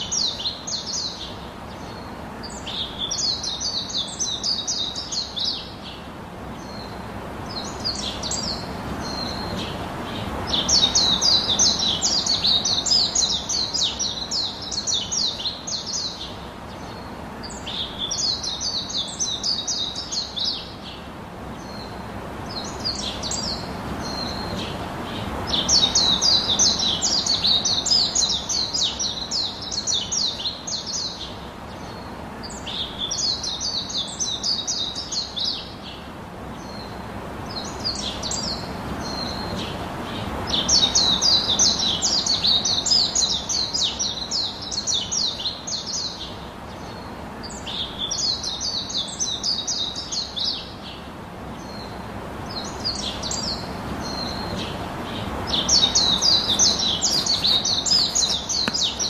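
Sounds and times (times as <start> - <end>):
birds chirping: 0.0 - 59.0
steady low hiss: 0.0 - 59.0.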